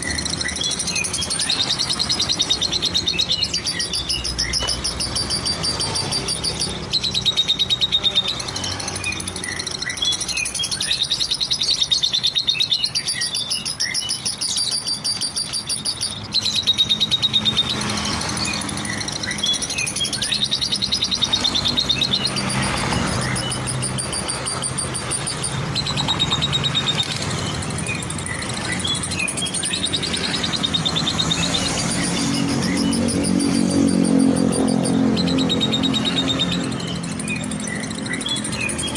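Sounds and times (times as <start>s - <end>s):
bird singing high trills: 0.0s - 38.9s.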